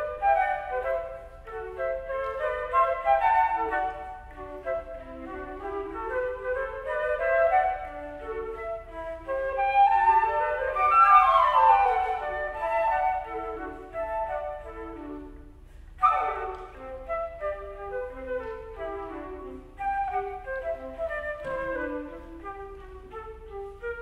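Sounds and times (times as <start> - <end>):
flute duet: 0.0 - 24.0.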